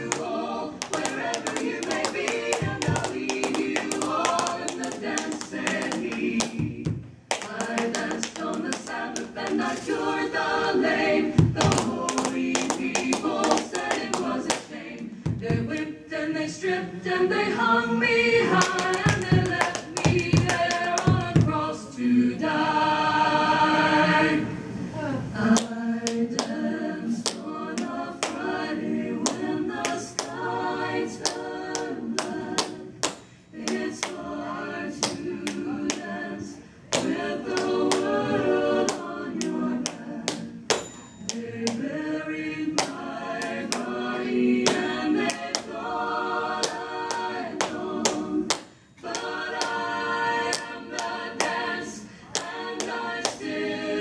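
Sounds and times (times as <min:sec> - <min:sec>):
choir singing a hymn: 0:00.0 - 0:40.7, 0:41.3 - 0:54.0.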